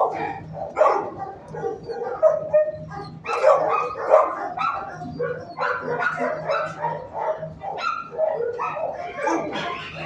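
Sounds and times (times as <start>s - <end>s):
dogs barking: 0.0s - 10.0s.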